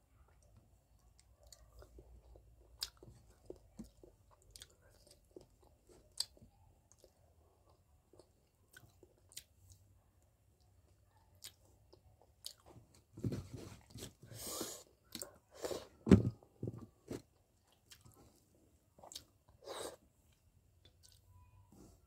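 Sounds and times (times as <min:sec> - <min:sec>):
person chewing food: 0:00.2 - 0:09.9, 0:10.6 - 0:21.3.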